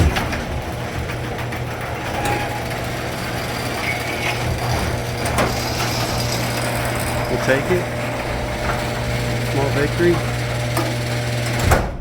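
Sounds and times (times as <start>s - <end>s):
garage door rolling on track: 0.0s - 12.0s
motor humming: 0.0s - 12.0s.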